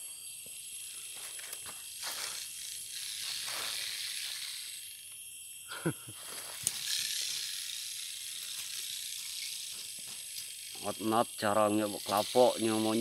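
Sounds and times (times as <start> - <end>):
porcupine quills rattling: 0.6 - 5.1, 6.2 - 13.0.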